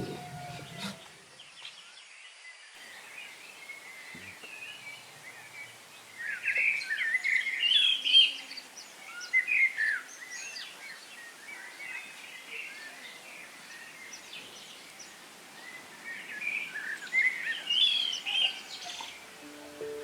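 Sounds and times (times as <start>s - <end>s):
small birds chirping: 0.0s - 1.7s, 2.8s - 20.0s
faint steady hiss: 2.7s - 20.0s.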